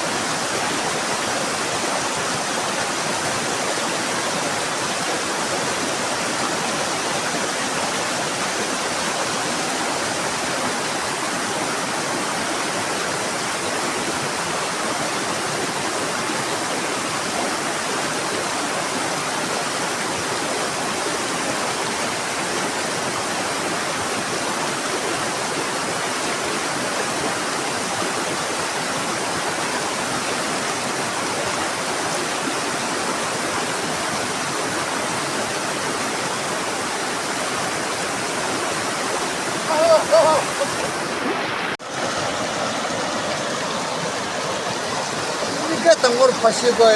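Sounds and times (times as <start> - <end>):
river water rushing: 0.0 - 46.9.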